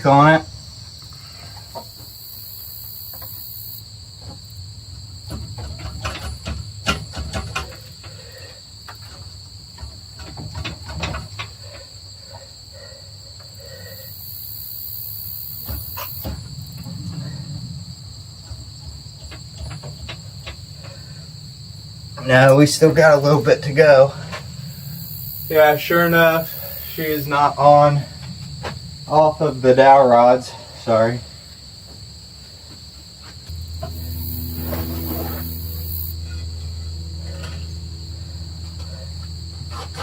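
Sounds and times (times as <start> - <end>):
crickets chirping: 0.0 - 40.0.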